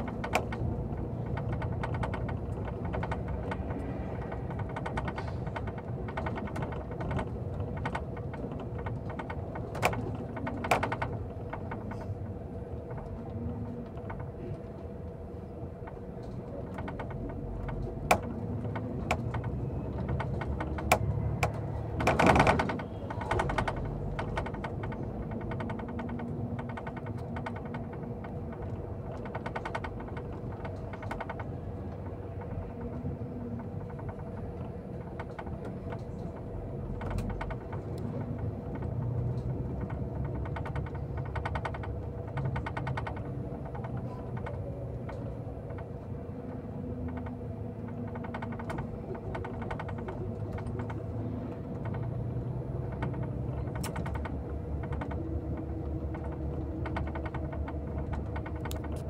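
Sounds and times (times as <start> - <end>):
interior rattles and ticks: 0.0 - 59.0
vehicle engine and road hum: 0.0 - 59.0.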